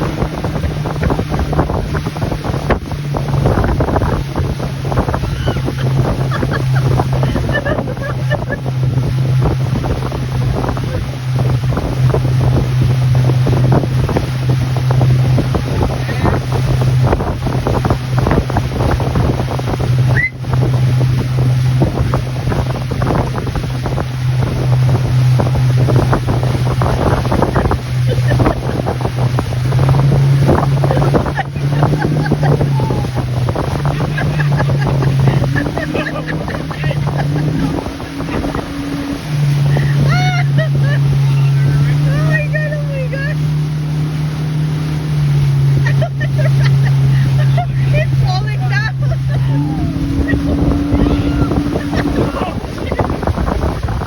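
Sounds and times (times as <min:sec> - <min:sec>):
motorboat engine running: 0:00.0 - 0:54.0
rushing water: 0:00.0 - 0:54.0
wind buffeting microphone: 0:00.0 - 0:54.0.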